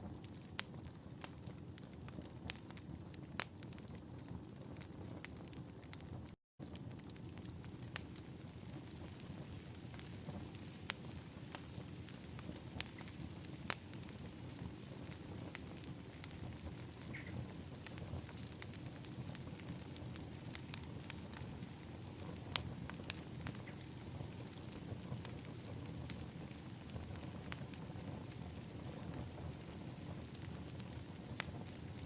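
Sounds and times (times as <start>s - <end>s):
low rumble of burning: 0.0s - 32.0s
wood fire crackling and popping: 0.0s - 32.0s.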